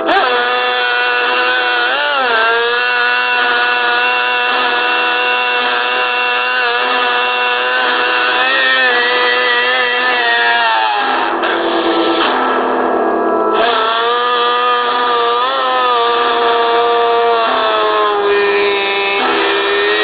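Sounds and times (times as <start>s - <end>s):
music of bending held notes: 0.0s - 20.0s.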